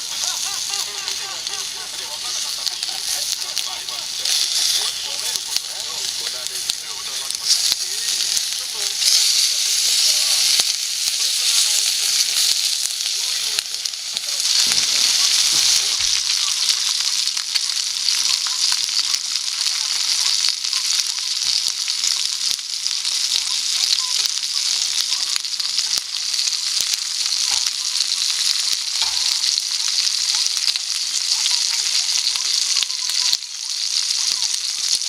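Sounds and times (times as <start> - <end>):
food sizzling in a pan: 0.0 - 35.0
small crackles: 0.0 - 35.0.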